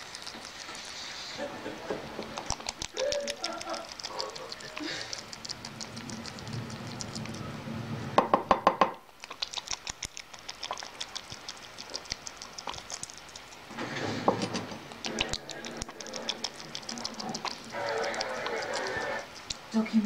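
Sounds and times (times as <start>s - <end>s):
rabbit licking and mouth clicks: 0.0s - 8.2s, 8.9s - 20.0s
rabbit lapping liquid: 0.0s - 8.4s, 9.0s - 20.0s.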